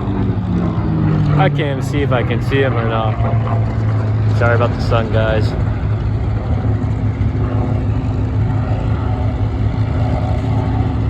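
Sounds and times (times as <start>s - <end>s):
propeller plane flying by: 0.0s - 11.0s.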